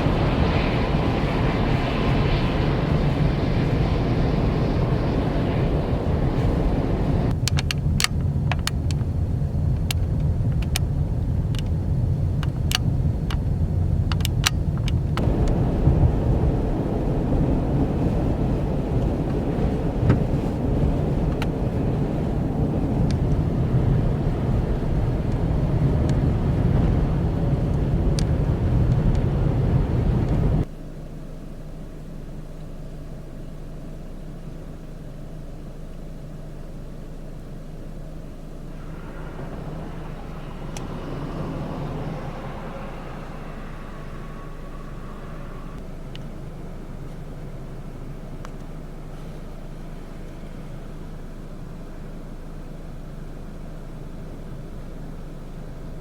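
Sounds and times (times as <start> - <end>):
blizzard wind buffeting microphone: 0.0 - 30.7, 38.1 - 56.0.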